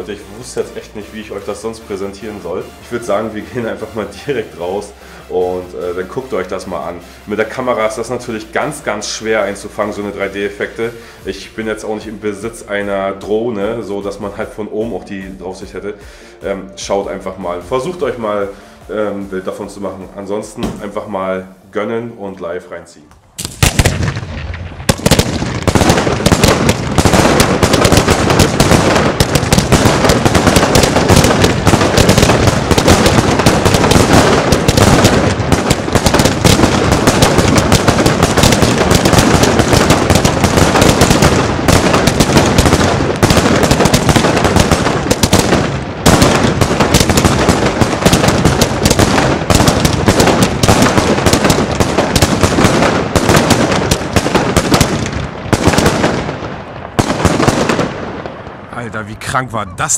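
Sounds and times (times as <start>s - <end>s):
fireworks launching and bursting: 0.0s - 16.6s, 23.2s - 59.9s.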